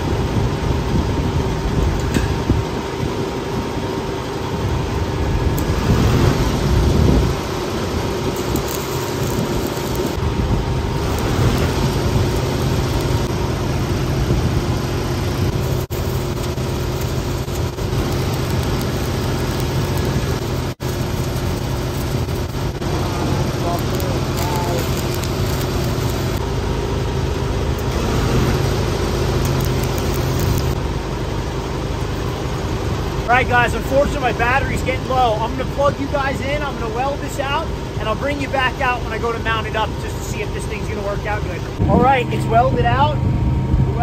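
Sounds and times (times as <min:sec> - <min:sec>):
welding arc crackling hiss: 0:00.0 - 0:43.2
engine humming: 0:00.0 - 0:44.0.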